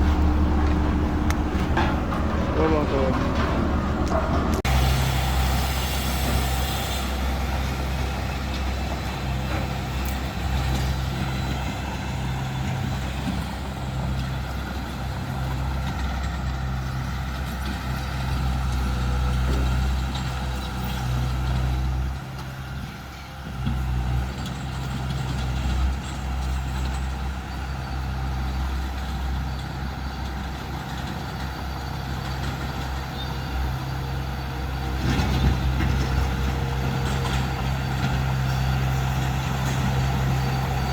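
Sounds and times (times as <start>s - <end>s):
diesel engine running with pulsing hum: 0.0s - 40.9s.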